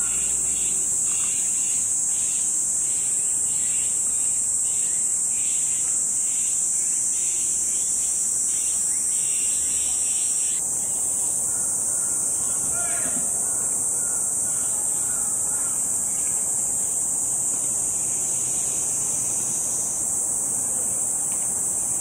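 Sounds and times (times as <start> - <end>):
cicadas high-pitched drone: 0.0 - 22.0
lower pulsing insect call: 0.0 - 22.0.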